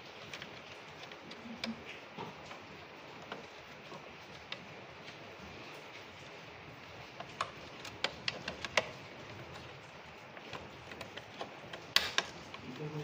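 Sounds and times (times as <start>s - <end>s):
light sharp clicks and knocks: 0.0s - 13.0s
low background noise: 0.0s - 13.0s.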